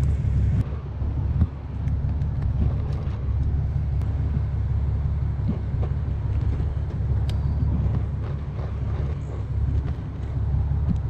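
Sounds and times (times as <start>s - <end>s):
motorcycle rumble: 0.0s - 11.0s.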